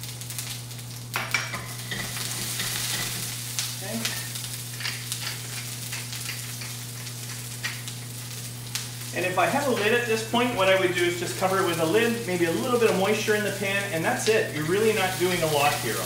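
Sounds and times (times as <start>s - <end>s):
steady low hum: 0.0s - 16.0s
tomatoes sizzling in hot oil: 0.0s - 16.0s.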